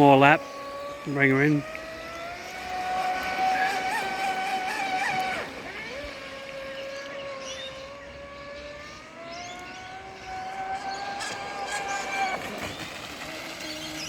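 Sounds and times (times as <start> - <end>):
speedboat motor whine: 0.0 - 14.0.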